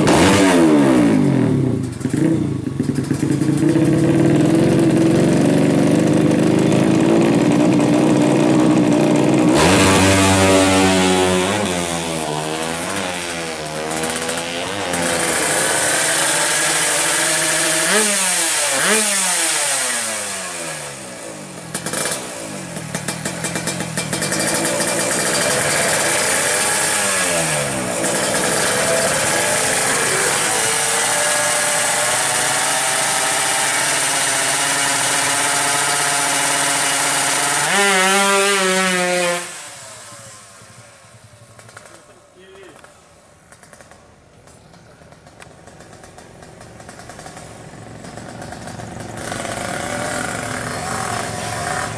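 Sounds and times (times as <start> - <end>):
exhaust crackle: 0.0 - 51.9
two-stroke motorcycle engine revving: 0.0 - 51.9.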